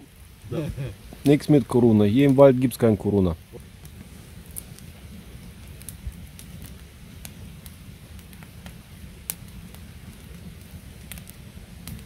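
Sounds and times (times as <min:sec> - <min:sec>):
campfire crackling and popping: 0:00.0 - 0:12.0
steady low rumble: 0:00.0 - 0:12.0.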